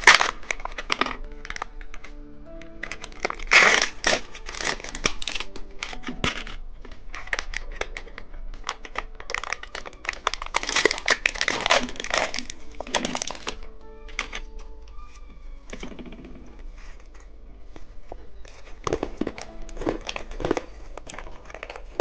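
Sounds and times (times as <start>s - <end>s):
candy wrapper crinkling: 0.0s - 15.9s, 18.3s - 22.0s.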